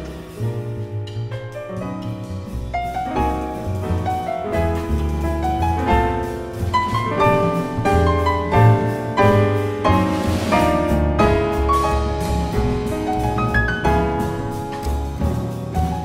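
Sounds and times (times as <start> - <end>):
double bass walking: 0.0 - 16.0
grand piano playing chords: 0.0 - 16.0.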